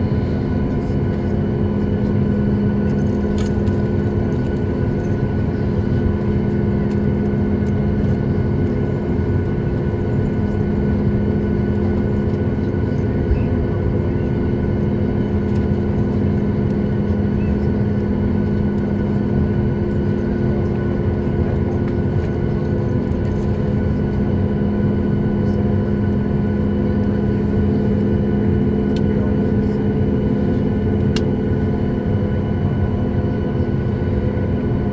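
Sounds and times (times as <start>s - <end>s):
aircraft cabin drone: 0.0s - 34.9s.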